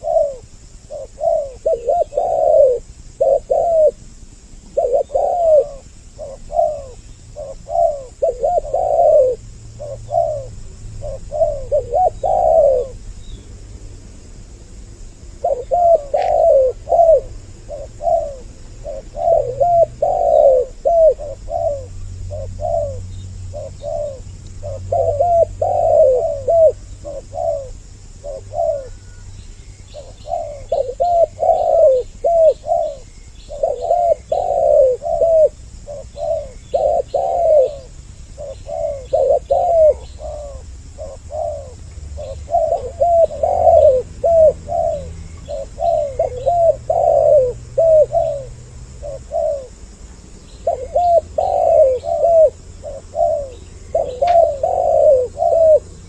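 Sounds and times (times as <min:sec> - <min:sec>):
doves cooing: 0:00.0 - 0:13.4, 0:15.2 - 0:56.0
small bird chirping: 0:00.0 - 0:14.0, 0:15.0 - 0:56.0.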